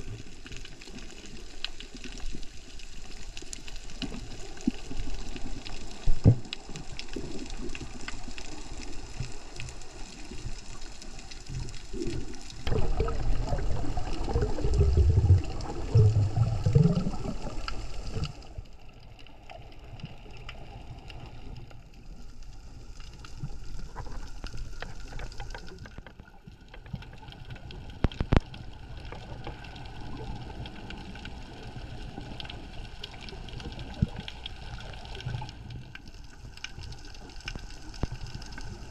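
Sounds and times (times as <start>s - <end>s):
low water gurgles: 0.0s - 38.9s
underwater moving water: 0.0s - 38.9s.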